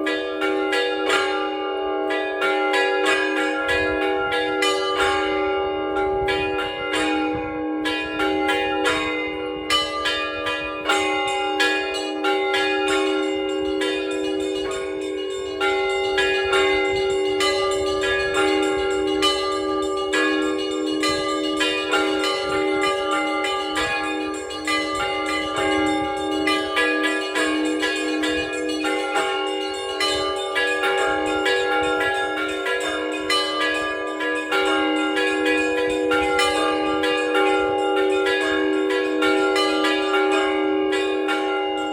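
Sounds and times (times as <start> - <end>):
church bells pealing: 0.0 - 41.9
low tones of large bells: 0.0 - 41.9.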